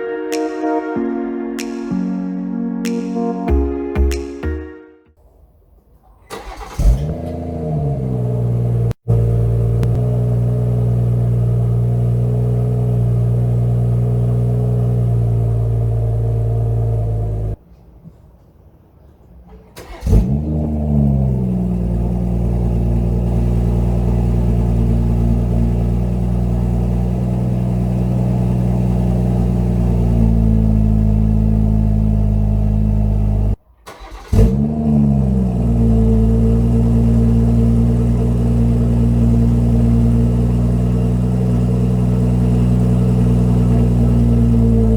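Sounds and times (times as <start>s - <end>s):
car engine starting and idling: 6.0s - 17.6s, 19.5s - 44.9s.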